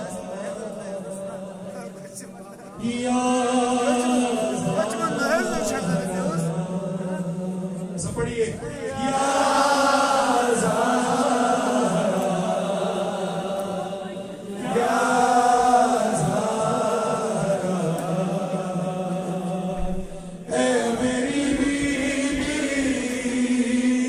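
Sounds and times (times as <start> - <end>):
men chanting into microphones: 0.0 - 24.0.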